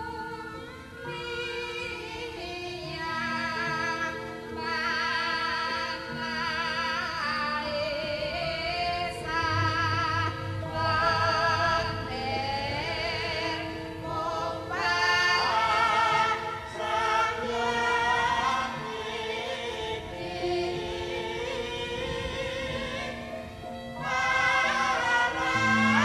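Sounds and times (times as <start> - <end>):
gamelan music: 0.0 - 26.0
voices singing long notes: 0.0 - 26.0.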